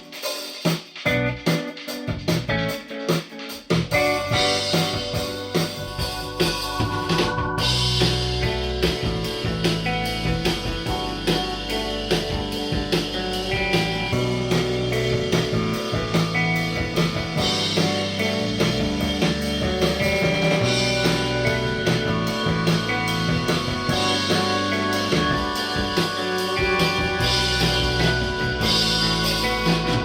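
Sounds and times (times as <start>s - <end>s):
instrumental rock music: 0.0s - 30.0s.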